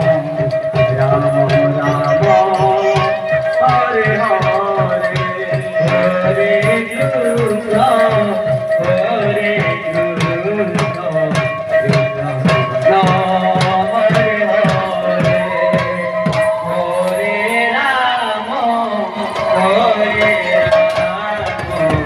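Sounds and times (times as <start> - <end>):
voices singing: 0.0 - 22.0
steady held tone: 0.3 - 22.0.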